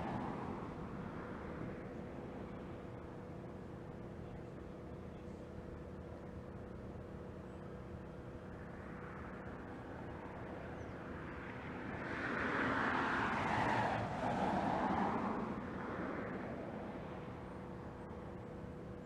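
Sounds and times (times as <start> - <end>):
steady low hum: 0.0 - 13.3, 14.1 - 19.0.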